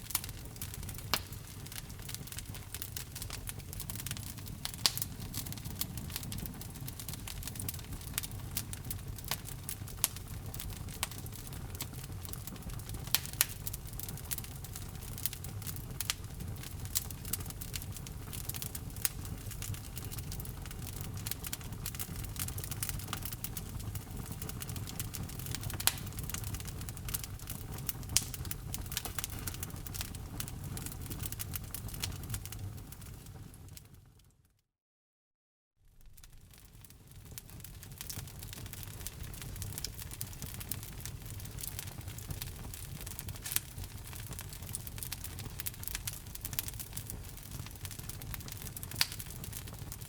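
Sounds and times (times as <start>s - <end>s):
wood fire crackling: 0.0s - 34.1s, 35.9s - 50.0s.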